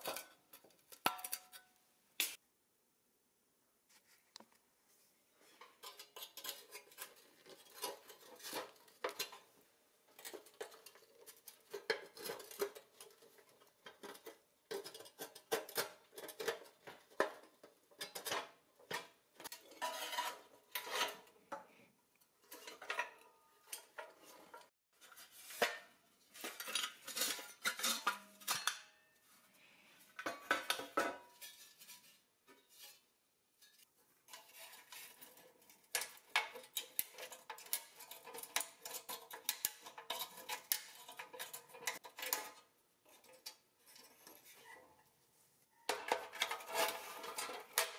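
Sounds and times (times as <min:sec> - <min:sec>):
metal clinks and scrapes: 0:05.4 - 0:21.5, 0:22.4 - 0:29.3, 0:30.2 - 0:45.0, 0:45.8 - 0:47.9.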